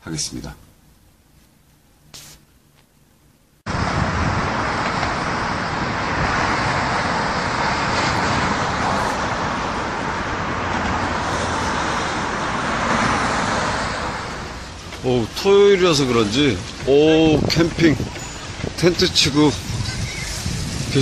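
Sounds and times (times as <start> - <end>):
road traffic noise: 3.7 - 21.0.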